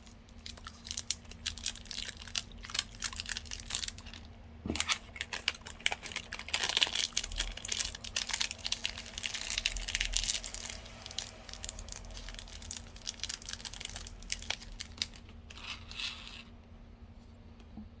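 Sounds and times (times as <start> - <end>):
plastic wrapper crinkling: 0.0 - 16.4.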